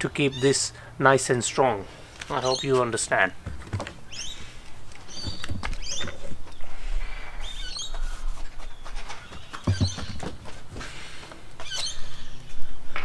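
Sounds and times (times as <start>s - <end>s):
small birds chirping: 0.0s - 10.4s, 11.1s - 13.0s.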